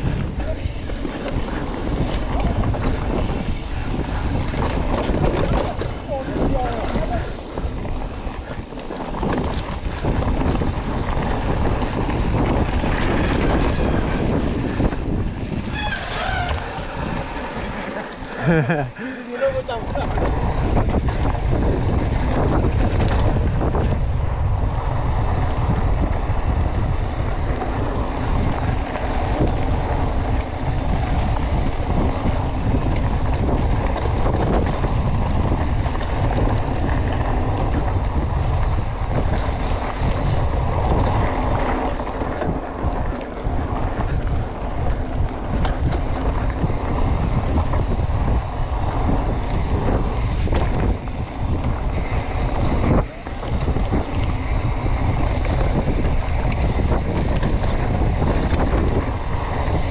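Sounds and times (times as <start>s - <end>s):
bike rattling over rough ground: 0.0s - 59.9s
wind buffeting microphone: 0.0s - 59.9s.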